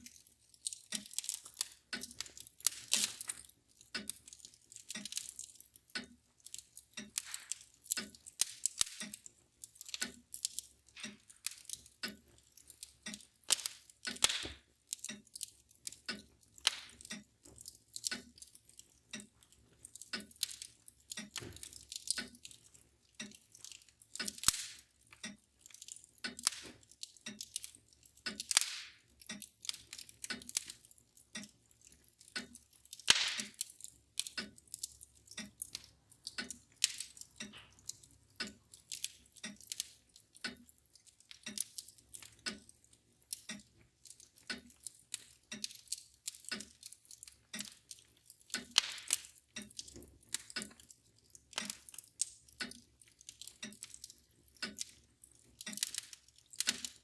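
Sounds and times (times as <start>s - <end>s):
mantel clock ticking: 0.0s - 57.0s
wood fire crackling and popping: 0.0s - 57.0s.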